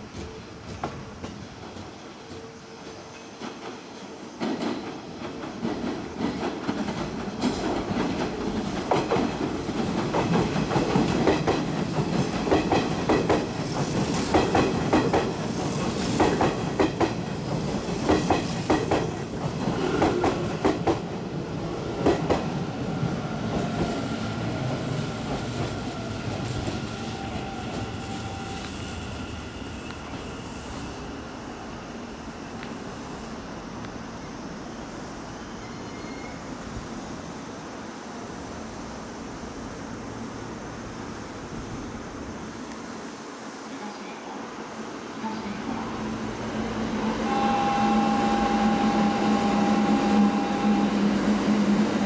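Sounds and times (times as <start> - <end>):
high train whine: 0.0 - 52.0.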